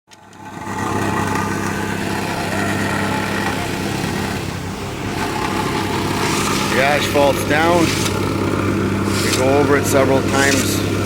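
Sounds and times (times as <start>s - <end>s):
paving machine engine running: 0.1s - 11.0s.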